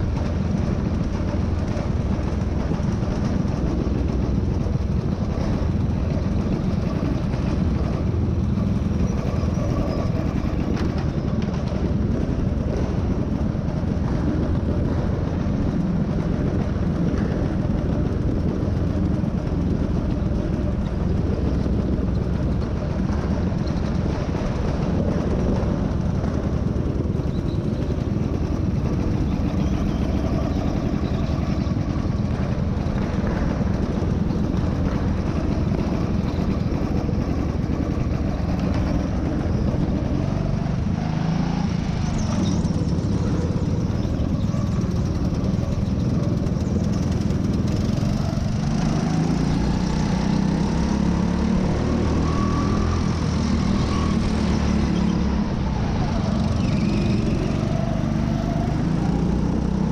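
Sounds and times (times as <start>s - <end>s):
go-kart engine rumble: 0.0s - 59.9s.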